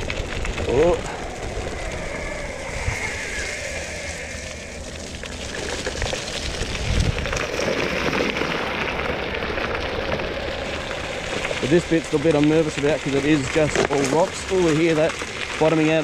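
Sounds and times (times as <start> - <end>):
low rumble: 0.0 - 16.0
wheels crunching on gravel: 0.0 - 16.0.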